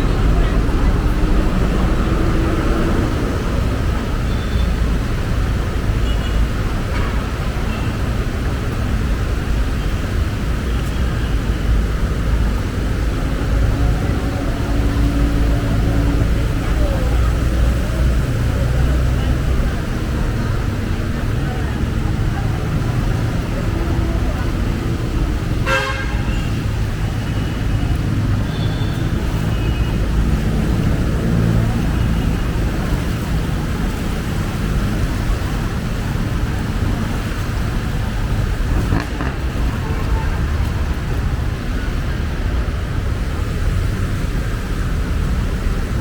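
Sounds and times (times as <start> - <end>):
city street traffic rumble: 0.0 - 46.0.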